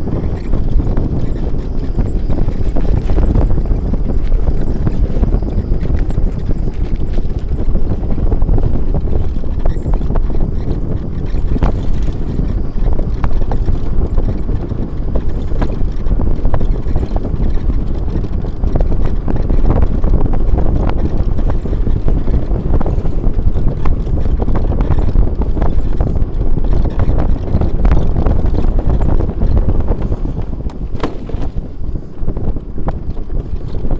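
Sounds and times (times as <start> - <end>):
low rumble: 0.0 - 33.9
wind buffeting microphone: 0.0 - 33.9.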